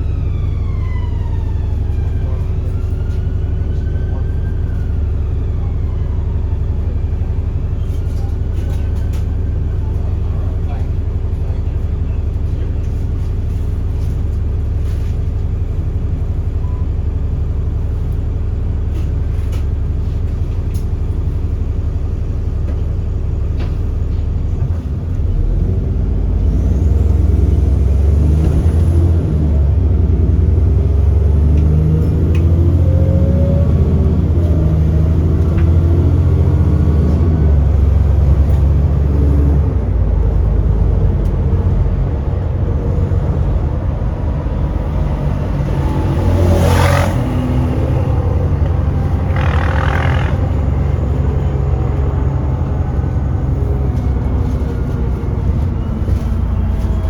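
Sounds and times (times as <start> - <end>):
bus engine: 0.0 - 57.0.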